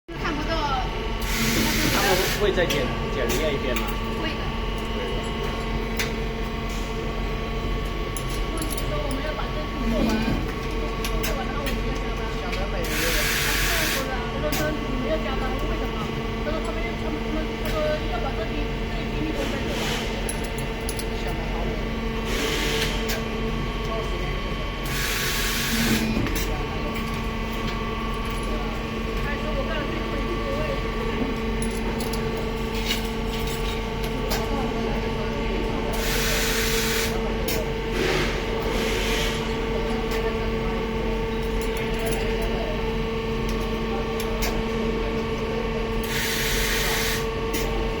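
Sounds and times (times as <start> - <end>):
welding machine electrical hum: 0.1 - 48.0.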